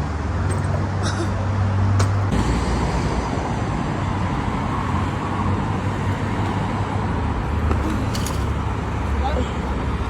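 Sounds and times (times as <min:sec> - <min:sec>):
vehicle rumbling and rushing: 0:00.0 - 0:10.0.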